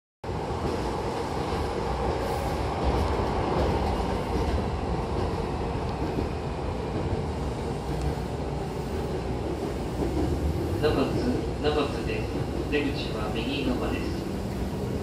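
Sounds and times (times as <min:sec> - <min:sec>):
train wheels rumbling on rail: 0:00.2 - 0:15.0.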